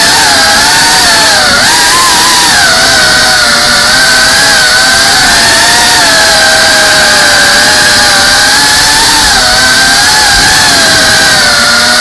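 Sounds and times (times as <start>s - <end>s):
drone motors and propellers whining: 0.0s - 12.0s.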